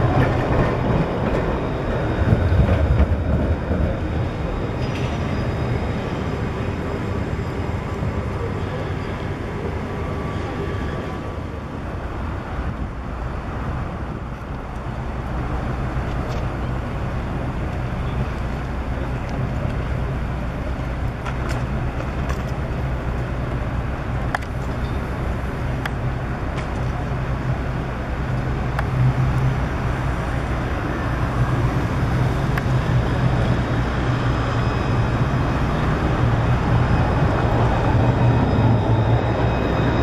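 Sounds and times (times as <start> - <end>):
traffic noise: 0.0 - 40.0
tram humming: 0.0 - 40.0.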